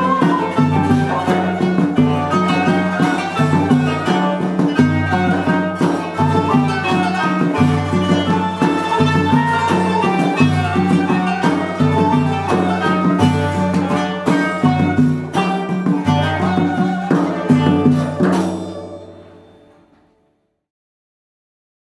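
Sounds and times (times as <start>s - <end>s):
drum strokes: 0.0s - 19.9s
plucked zither and lutes: 0.0s - 20.2s.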